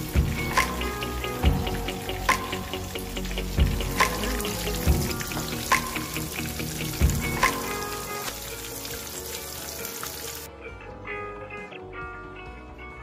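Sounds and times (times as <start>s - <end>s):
food sizzling in hot oil: 0.0s - 10.5s
guitar music: 0.0s - 13.0s.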